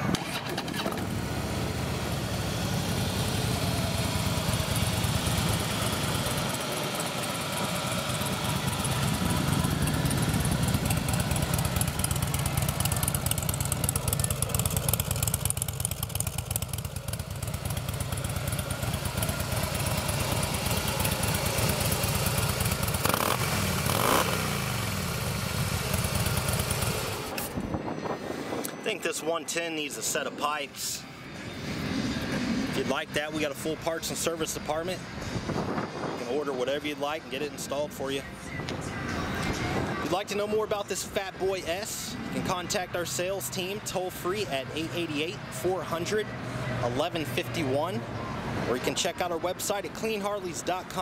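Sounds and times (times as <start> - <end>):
motorcycle engine idling and revving: 0.0 - 28.0, 31.2 - 51.0.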